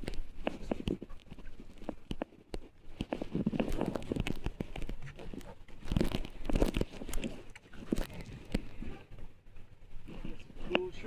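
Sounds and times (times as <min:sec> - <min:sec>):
microphone rubbing against clothing: 0:00.0 - 0:09.2.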